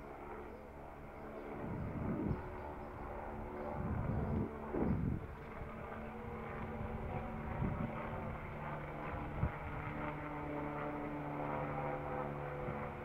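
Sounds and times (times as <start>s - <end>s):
helicopter drone overhead: 0.0s - 13.0s.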